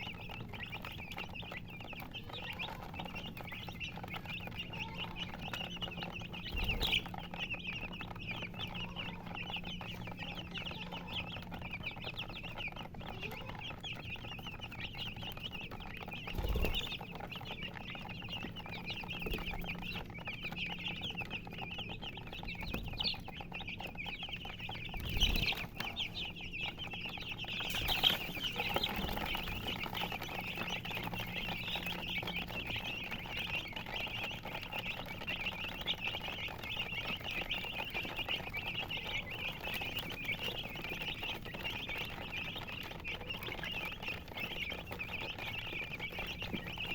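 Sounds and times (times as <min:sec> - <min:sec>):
baby chicks cheeping: 0:00.0 - 0:46.9.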